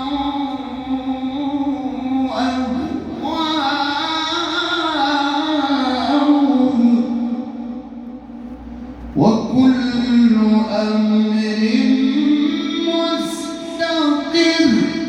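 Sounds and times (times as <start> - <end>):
man chanting melodically: 0.0 - 8.3, 9.1 - 15.0.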